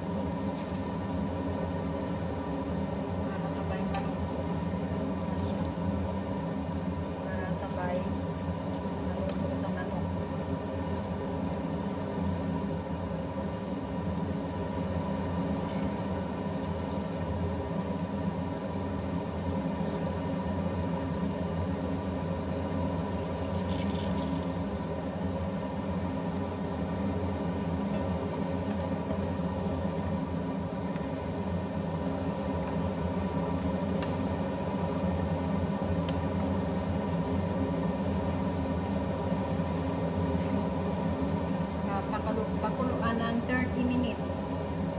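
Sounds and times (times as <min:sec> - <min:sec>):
appliance hum: 0:00.0 - 0:44.9.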